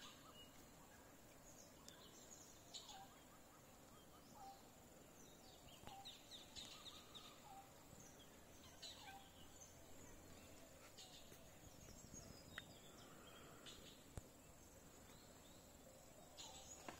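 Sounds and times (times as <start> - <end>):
distant bird calls: 0.0 - 16.9.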